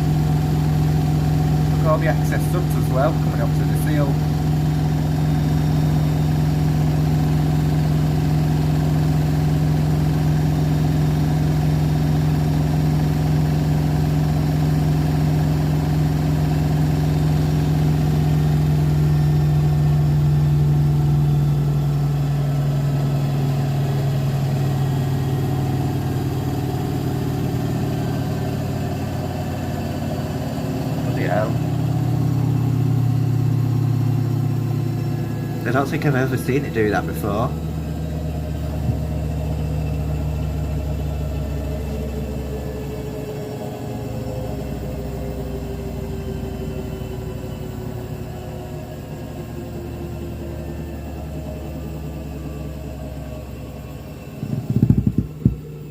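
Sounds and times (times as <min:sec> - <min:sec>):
washing machine spinning hum: 0:00.0 - 0:55.9.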